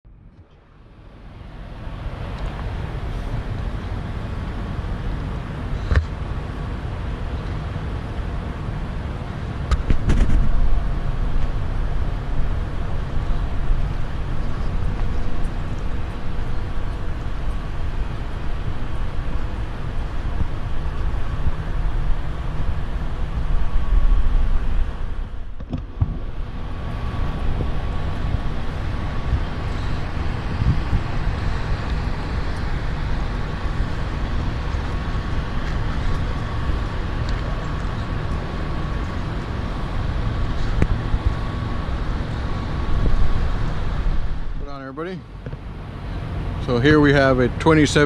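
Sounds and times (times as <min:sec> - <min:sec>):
thin steady whine: 0:00.1 - 0:48.0
diesel truck idling: 0:00.6 - 0:09.8, 0:10.5 - 0:48.0.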